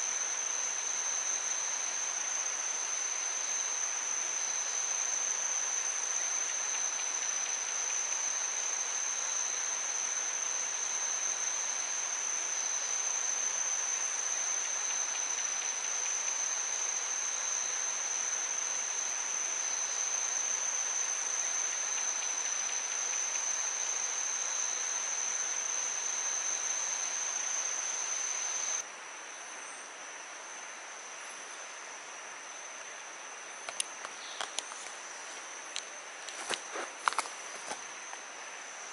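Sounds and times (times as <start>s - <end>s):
high-pitched insect drone: 0.0s - 38.9s
hiss of insects calling: 0.0s - 38.9s.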